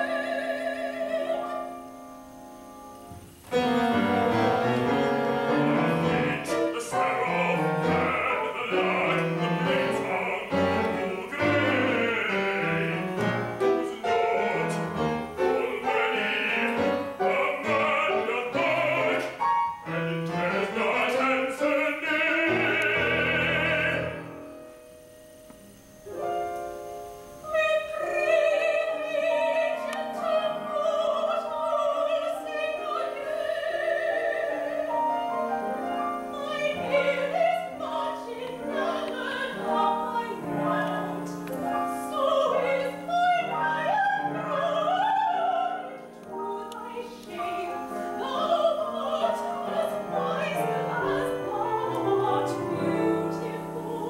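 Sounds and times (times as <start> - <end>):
opera singing: 0.0 - 2.7, 3.5 - 24.8, 27.3 - 54.0
orchestral accompaniment: 0.0 - 54.0.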